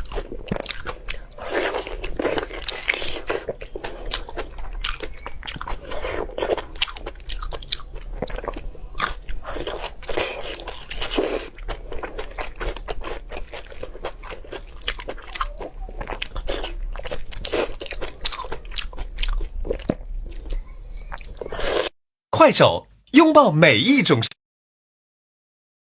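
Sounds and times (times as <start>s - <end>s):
crunchy food being chewed: 0.0s - 22.0s.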